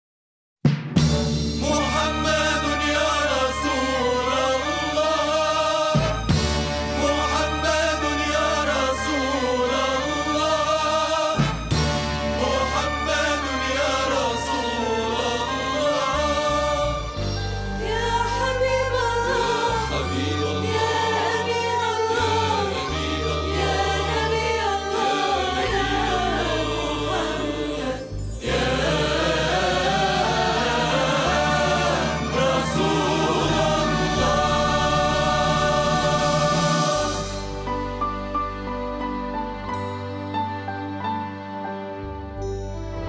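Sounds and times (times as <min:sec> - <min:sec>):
percussion: 0:00.7 - 0:41.0
strings: 0:01.0 - 0:43.0
choir singing: 0:01.6 - 0:38.7.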